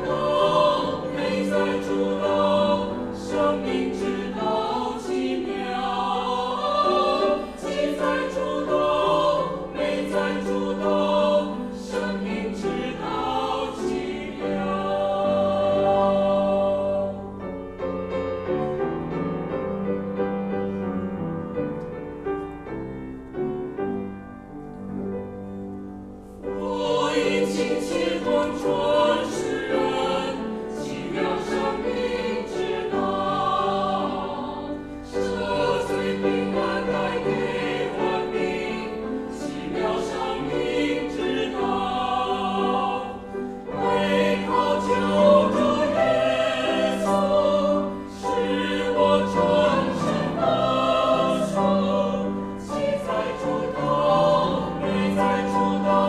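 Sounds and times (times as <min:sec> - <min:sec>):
choir singing a hymn: 0:00.0 - 0:22.4, 0:24.9 - 0:56.0.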